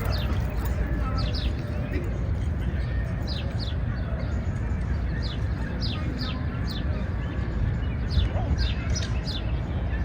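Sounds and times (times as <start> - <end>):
low city noise hum: 0.0 - 10.0
songbirds chirping: 0.0 - 10.0.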